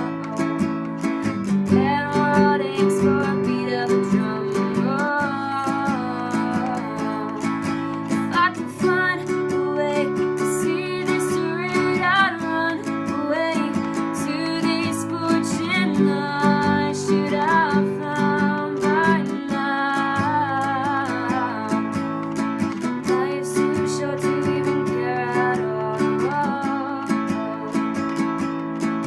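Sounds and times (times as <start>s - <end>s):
acoustic guitar strumming: 0.0s - 29.0s
woman singing: 0.0s - 29.0s.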